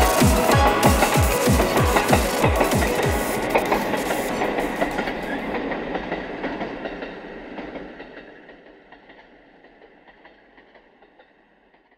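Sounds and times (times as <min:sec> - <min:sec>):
train wheels clacking on rails: 0:00.0 - 0:11.9.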